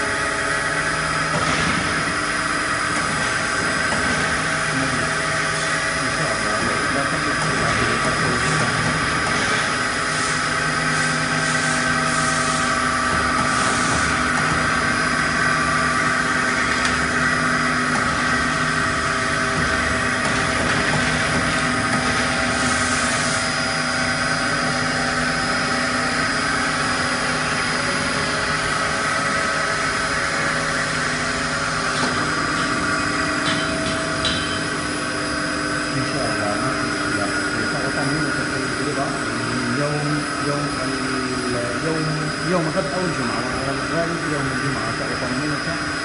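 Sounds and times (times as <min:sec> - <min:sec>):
mixer machine humming: 0:00.0 - 0:46.0.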